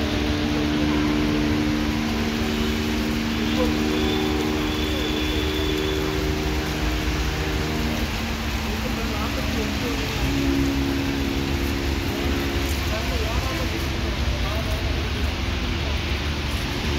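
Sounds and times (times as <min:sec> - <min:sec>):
falling rain hiss: 0:00.0 - 0:16.9.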